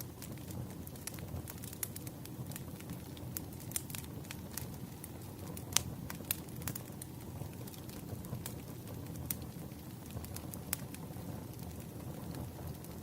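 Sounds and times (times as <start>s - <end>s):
fire crackles and pops: 0.0s - 13.0s
flames rumbling: 0.0s - 13.0s.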